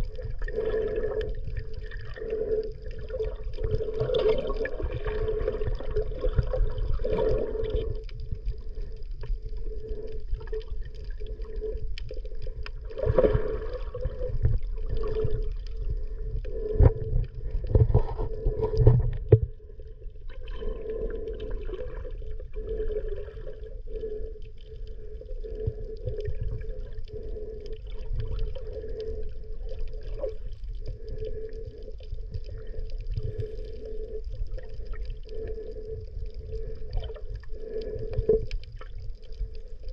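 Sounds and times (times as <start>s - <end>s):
low underwater rumble: 0.0s - 39.9s
underwater water gurgling: 0.0s - 39.9s.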